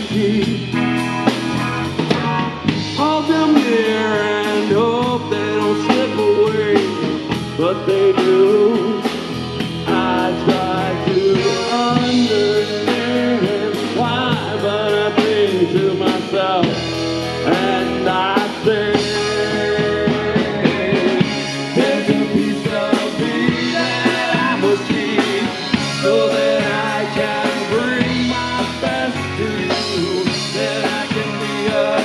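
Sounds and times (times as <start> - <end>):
bass guitar: 0.0 - 32.0
drum kit: 0.0 - 32.0
electric guitar bending melody: 0.0 - 32.0.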